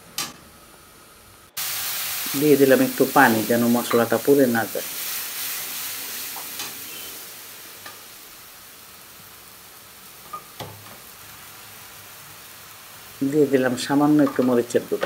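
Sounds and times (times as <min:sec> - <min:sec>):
oil sizzling in a pan: 0:01.1 - 0:15.0.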